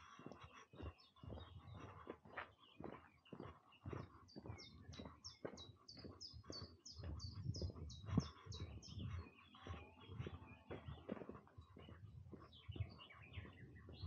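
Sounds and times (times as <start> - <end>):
footsteps on a path: 0.0 - 14.0
songbird singing: 0.0 - 14.0.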